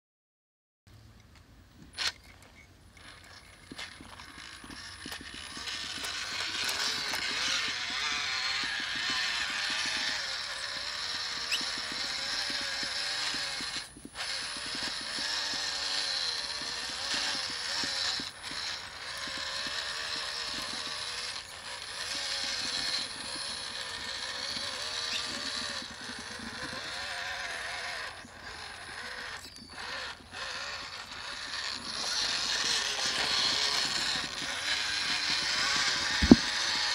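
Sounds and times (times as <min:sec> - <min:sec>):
toy truck motor whining: 0:01.8 - 0:36.9.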